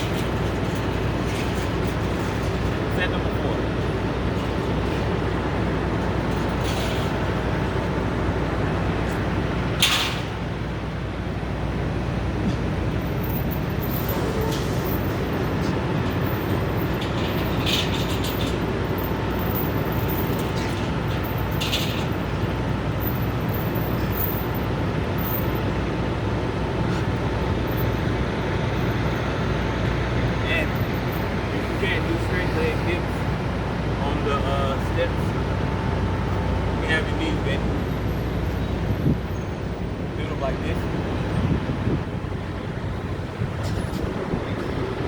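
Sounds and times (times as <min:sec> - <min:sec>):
truck engines idling: 0:00.0 - 0:45.0.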